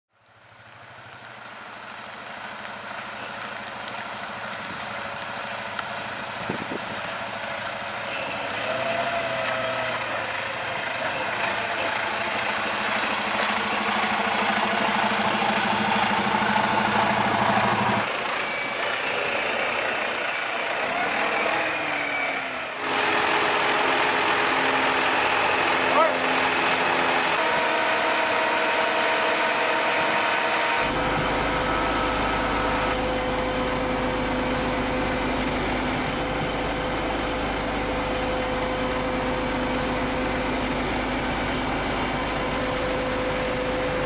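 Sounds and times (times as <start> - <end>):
truck engine running: 0.1 - 44.0.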